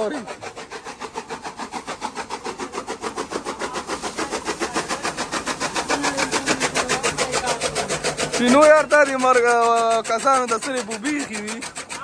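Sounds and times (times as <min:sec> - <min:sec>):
chaff cutter chopping: 0:00.0 - 0:12.0.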